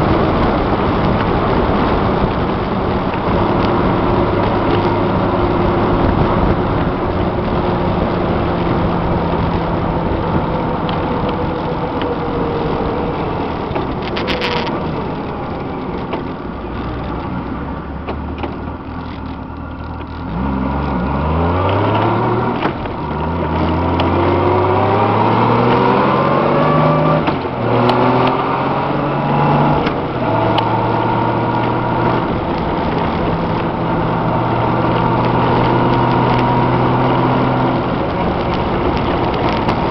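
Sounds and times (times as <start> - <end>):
motorcycle engine accelerating: 0.0 - 39.9
tire road noise: 0.0 - 39.9
wind noise: 0.0 - 39.9.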